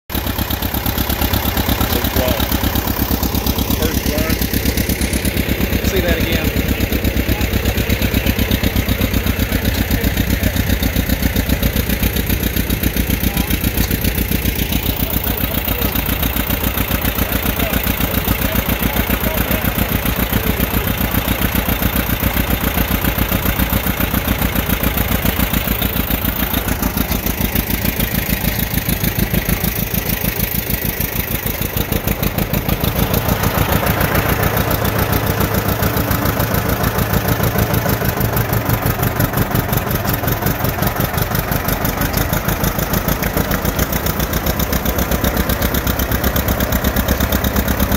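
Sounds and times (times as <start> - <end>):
tractor engine running: 0.1 - 47.9.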